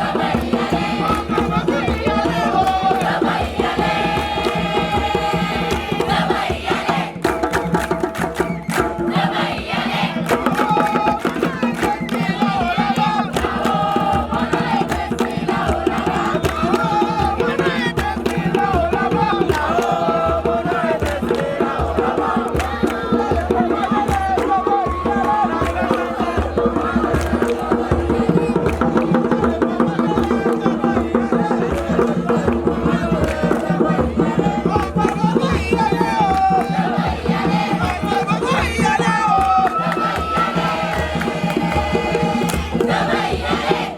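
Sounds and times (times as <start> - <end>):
group singing a chant: 0.0 - 43.9
steady drum beat: 0.0 - 43.9.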